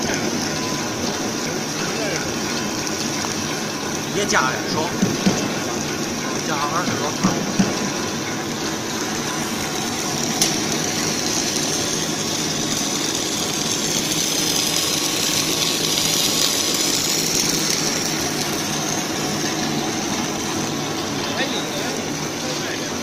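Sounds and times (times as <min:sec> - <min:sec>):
machine hiss and hum: 0:00.0 - 0:23.0.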